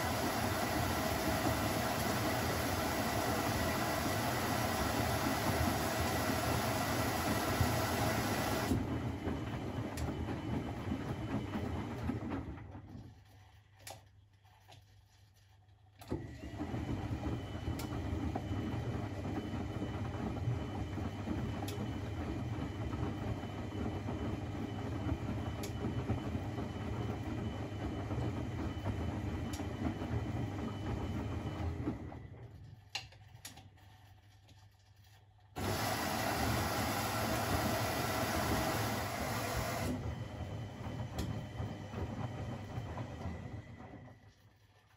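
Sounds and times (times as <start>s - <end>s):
washing machine running: 0.0s - 44.9s.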